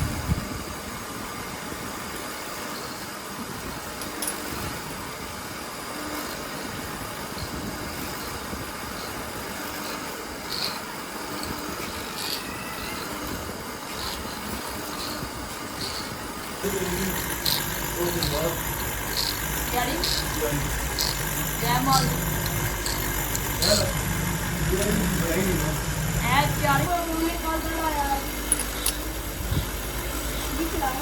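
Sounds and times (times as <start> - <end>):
machine running: 5.4 - 31.0.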